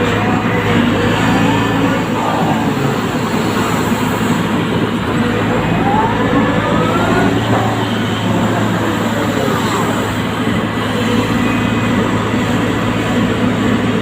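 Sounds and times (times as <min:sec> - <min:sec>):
excavator engine humming: 0:00.0 - 0:14.0.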